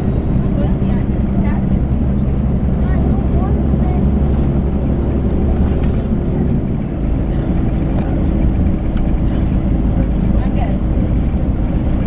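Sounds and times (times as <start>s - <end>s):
diesel coach engine drone: 0.0s - 12.0s.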